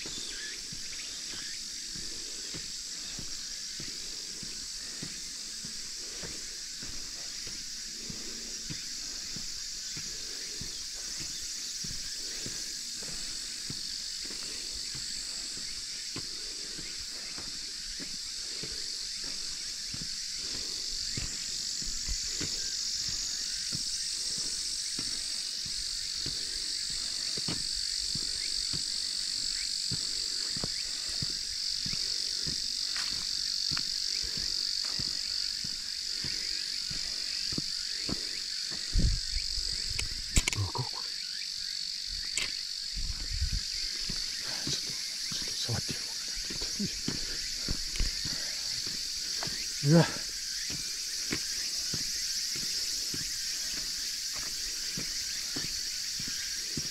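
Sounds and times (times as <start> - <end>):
footsteps on road: 0.0 - 41.0, 42.2 - 56.9
high-pitched insects chorus: 0.0 - 56.9.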